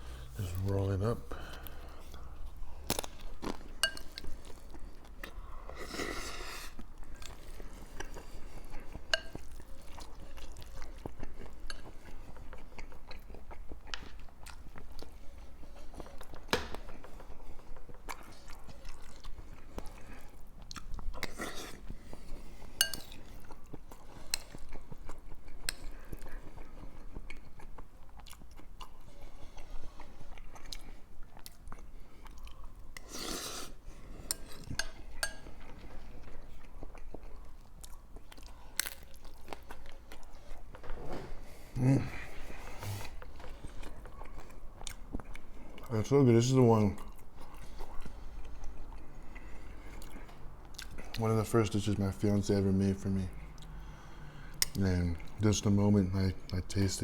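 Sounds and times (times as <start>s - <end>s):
person chewing food: 0.0s - 46.0s, 46.9s - 51.2s, 53.3s - 55.5s.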